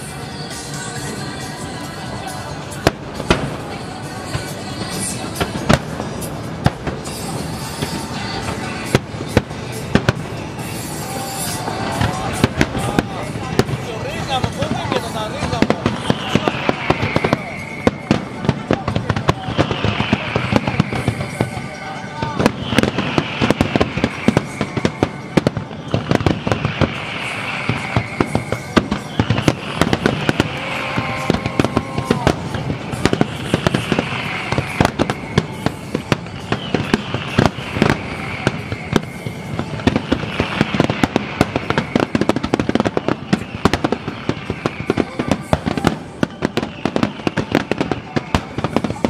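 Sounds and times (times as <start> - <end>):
fireworks bursting and crackling: 0.0 - 49.0.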